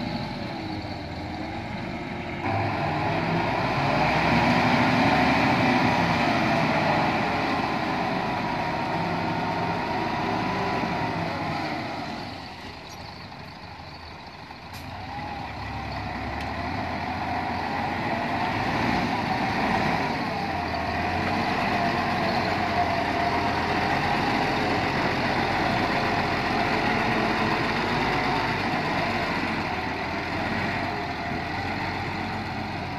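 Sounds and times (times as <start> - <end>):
truck engine under load: 0.0 - 32.9.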